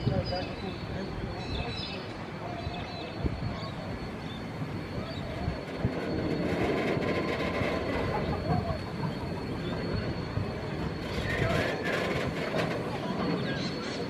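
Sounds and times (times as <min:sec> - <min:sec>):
train rolling slowly on track: 0:00.0 - 0:14.0.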